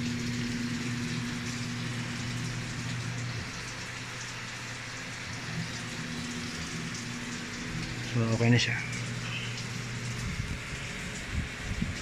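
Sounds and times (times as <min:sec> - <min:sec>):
water pouring into washing machine: 0:00.0 - 0:12.0.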